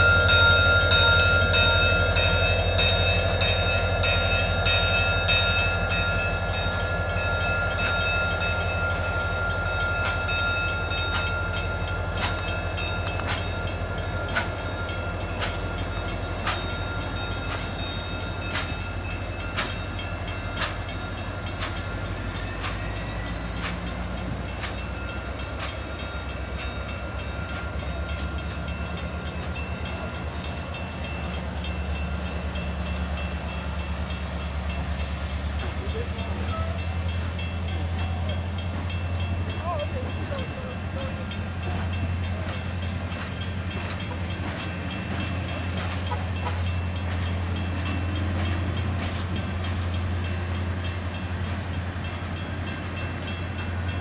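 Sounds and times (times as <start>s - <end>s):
locomotive engine drone: 0.0s - 54.0s
rumble of train cars: 0.0s - 54.0s.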